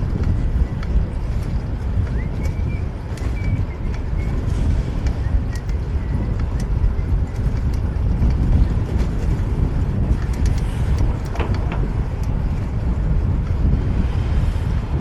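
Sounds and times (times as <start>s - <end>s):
street traffic noise: 0.0s - 15.0s
wind rumbling on microphone: 0.0s - 15.0s.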